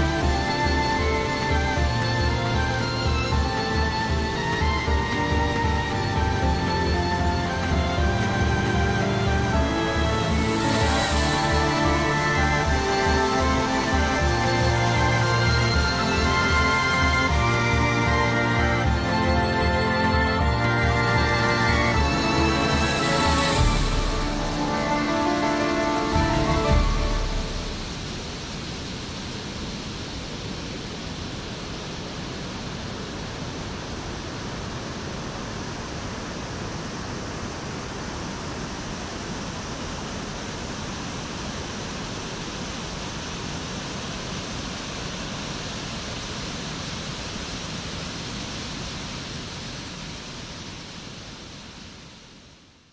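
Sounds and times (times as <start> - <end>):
waterfall pouring over rocks: 0.0 - 52.0.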